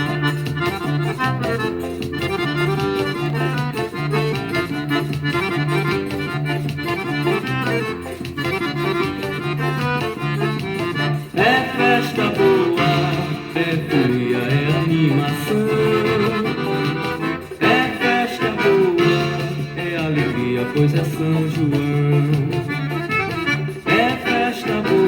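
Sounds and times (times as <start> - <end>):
accordion melody: 0.0 - 25.0
bouncing bass line: 0.0 - 25.0.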